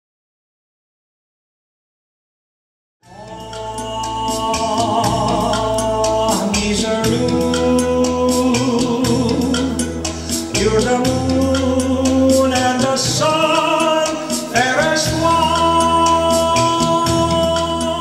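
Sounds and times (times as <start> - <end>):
drum beat and bass: 3.0 - 18.0
wavering sung melody: 3.1 - 18.0.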